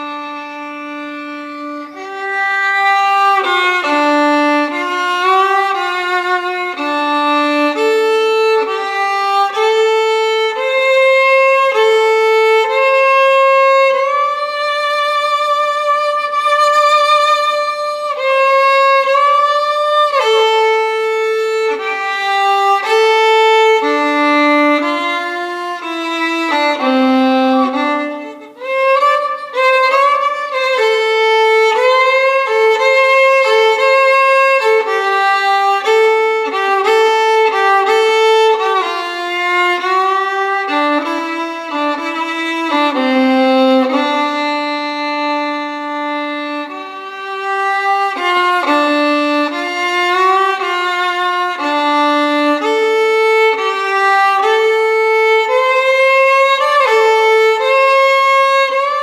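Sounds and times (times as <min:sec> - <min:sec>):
violin slow melody: 0:00.0 - 0:59.0.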